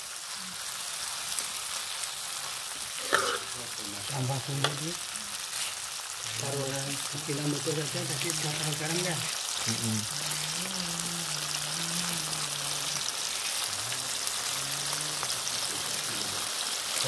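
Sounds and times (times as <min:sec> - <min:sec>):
food frying in a wok: 0:00.0 - 0:17.0.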